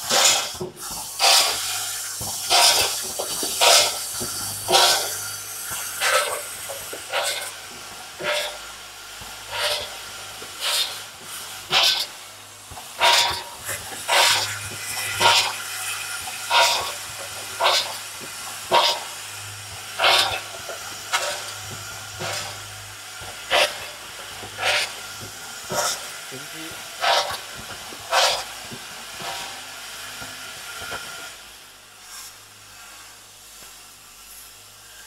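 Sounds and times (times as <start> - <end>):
pneumatic air hiss: 0.0 - 31.4, 32.0 - 35.0.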